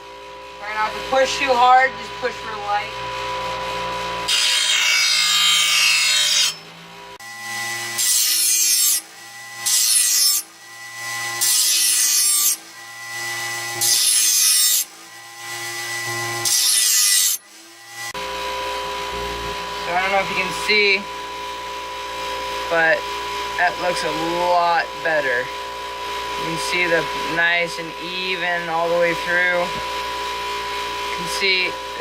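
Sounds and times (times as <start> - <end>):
grinder motor whine: 0.0 - 32.0
blade grinding on bench grinder: 0.5 - 32.0.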